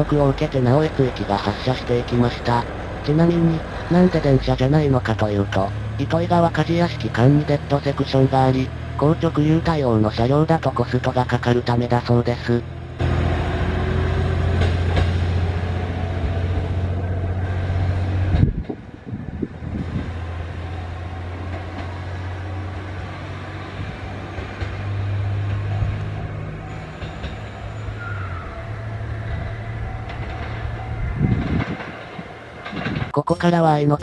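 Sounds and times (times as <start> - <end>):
train humming: 0.0 - 34.0.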